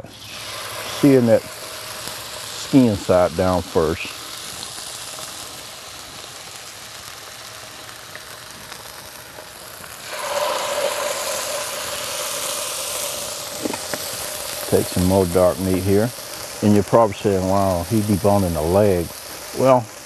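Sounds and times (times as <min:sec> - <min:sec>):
chicken sizzling on griddle: 0:00.0 - 0:20.0.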